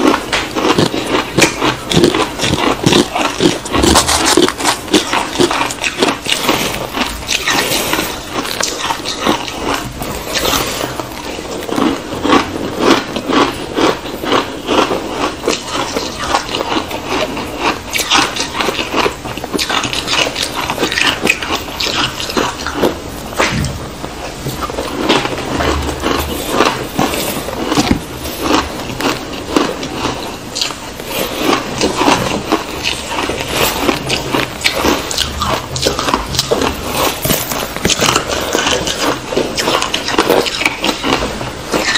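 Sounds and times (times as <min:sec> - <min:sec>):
ice crunching as it is chewed: 0:00.0 - 0:41.9.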